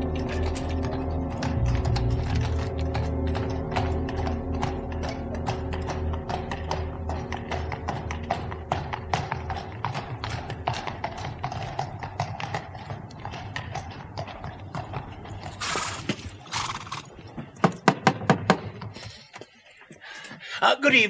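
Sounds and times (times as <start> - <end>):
carriage wheels rumbling: 0.0 - 20.6
horse hooves trotting on street: 0.0 - 20.6.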